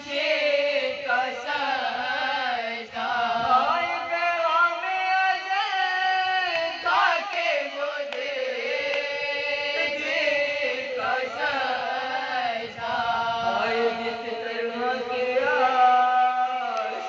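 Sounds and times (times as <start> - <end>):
women chanting together: 0.0 - 4.2, 6.7 - 17.0.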